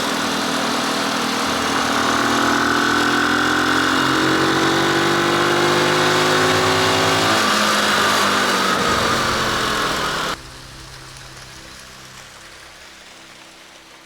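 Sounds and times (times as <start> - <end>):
motorcycle engine running: 0.0 - 12.0
rushing noise: 0.0 - 14.0.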